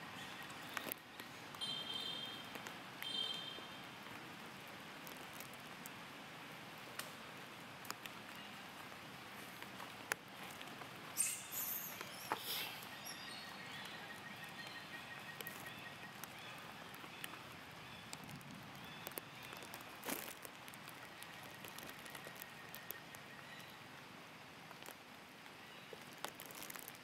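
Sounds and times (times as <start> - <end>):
background hiss: 0.0 - 27.0
rustling on dry leaves: 3.6 - 6.0, 7.1 - 24.0, 24.6 - 27.0.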